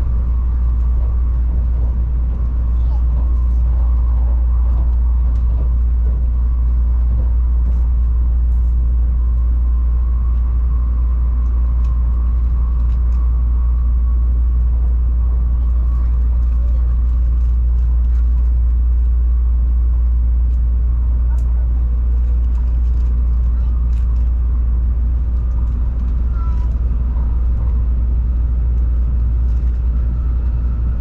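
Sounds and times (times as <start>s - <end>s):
faint steady whine: 0.0s - 31.0s
train cabin rumble: 0.0s - 31.0s.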